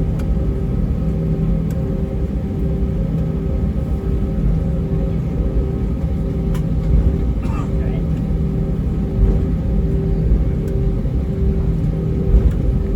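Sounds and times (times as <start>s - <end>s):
aircraft cabin engine rumble: 0.0s - 12.9s.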